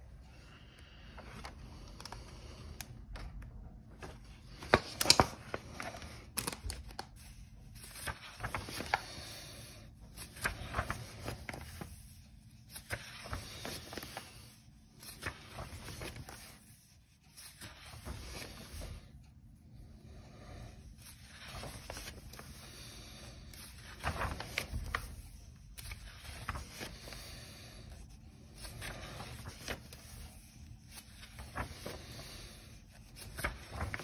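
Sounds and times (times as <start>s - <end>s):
paper pages turning: 0.6s - 19.3s, 20.0s - 34.0s
paper crackle: 4.0s - 19.2s, 20.1s - 34.0s.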